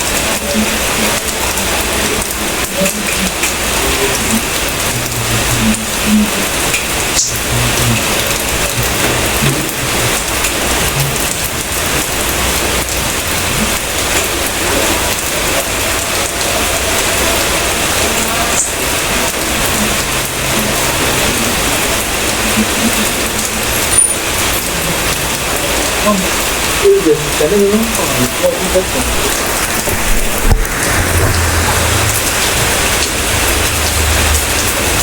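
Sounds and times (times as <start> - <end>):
steady rain on a surface: 0.0 - 35.0.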